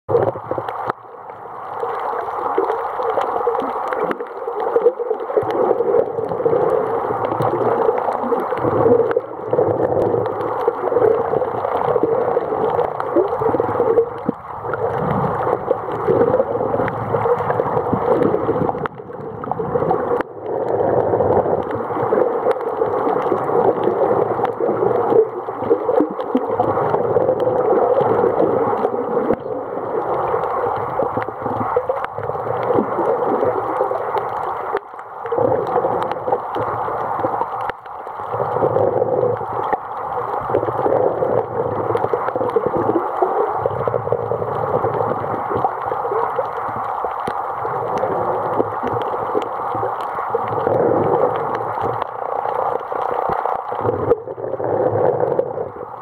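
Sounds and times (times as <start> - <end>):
faint underwater clicks: 0.1 - 56.0
muffled underwater water rushing: 0.1 - 56.0.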